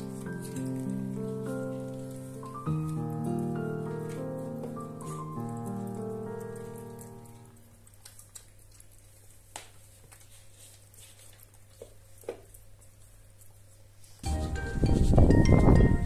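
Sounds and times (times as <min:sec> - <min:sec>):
puppy chewing and smacking: 0:00.0 - 0:14.2.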